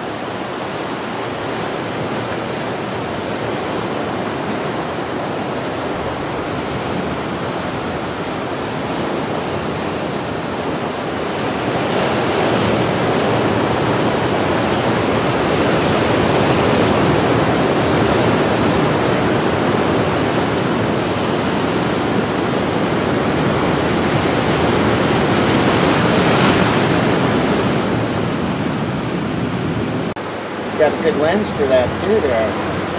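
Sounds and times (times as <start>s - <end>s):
surf washing on rocky shore: 0.0s - 32.9s
wave crashing against rocks: 0.0s - 32.9s.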